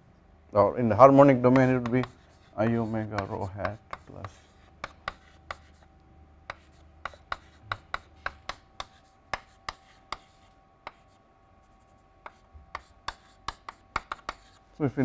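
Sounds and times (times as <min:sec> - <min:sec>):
chalk writing on chalkboard: 0:01.2 - 0:15.0.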